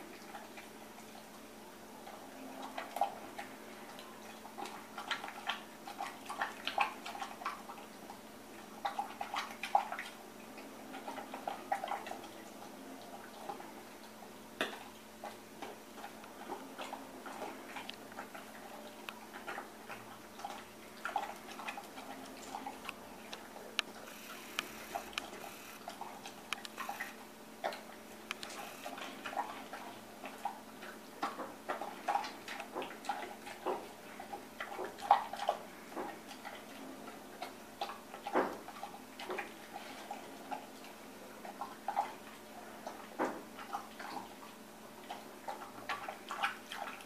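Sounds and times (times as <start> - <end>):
dog chewing and licking: 0.0 - 47.0.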